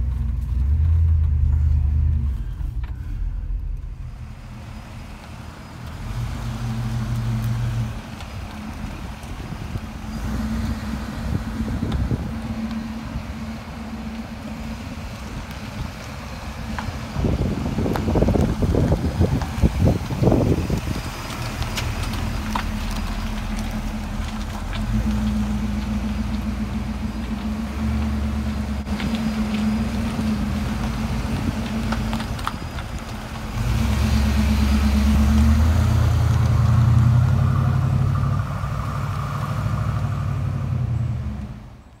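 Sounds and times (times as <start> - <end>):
car engine idling and driving off: 0.0 - 42.0.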